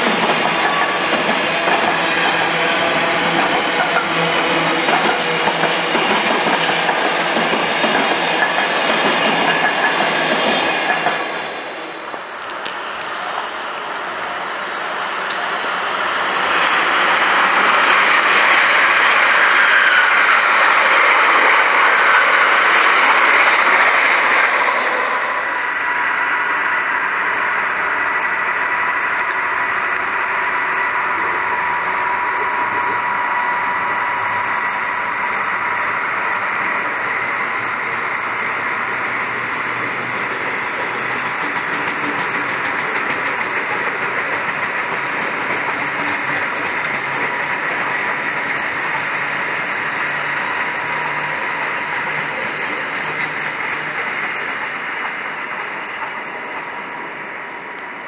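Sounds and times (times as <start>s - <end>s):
freight train rolling past: 0.0s - 58.0s
train rushing past: 0.0s - 58.0s
steady high whine: 9.7s - 58.0s.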